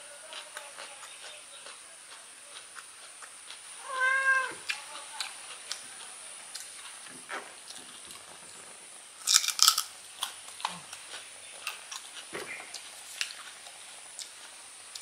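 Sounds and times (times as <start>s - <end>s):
crunchy fruit bites and chewing: 0.2s - 3.9s, 4.5s - 8.6s, 9.2s - 15.0s.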